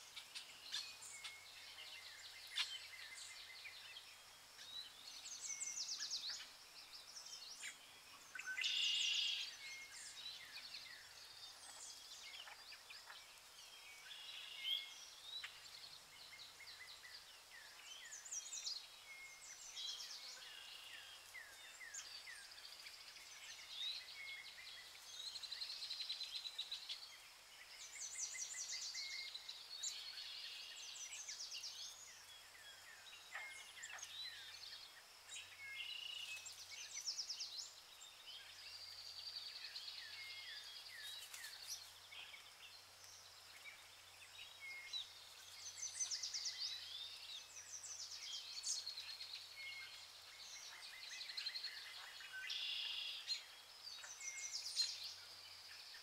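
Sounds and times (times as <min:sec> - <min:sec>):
birds chirping and singing: 0:00.0 - 0:56.0
faint outdoor hiss: 0:00.0 - 0:56.0.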